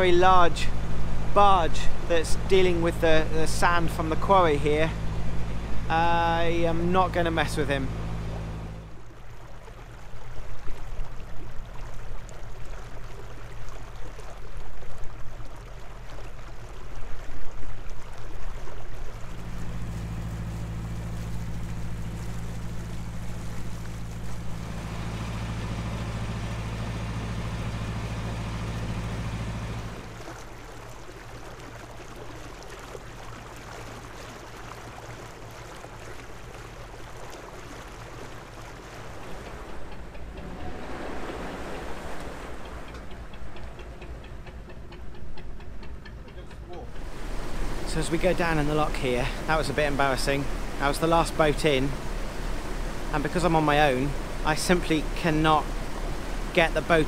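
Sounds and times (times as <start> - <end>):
boat diesel engine running: 0.0 - 10.5, 18.8 - 57.0
water rushing along hull: 0.0 - 57.0.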